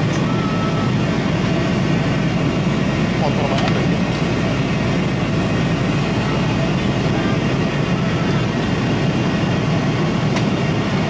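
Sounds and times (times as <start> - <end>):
airliner cabin roar: 0.0 - 11.0.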